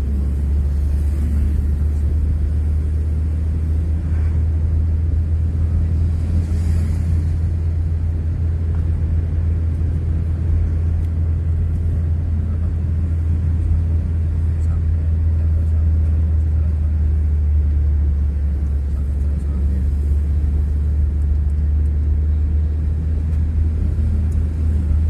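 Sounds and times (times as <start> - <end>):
road and engine rumble in vehicle: 0.0 - 25.0.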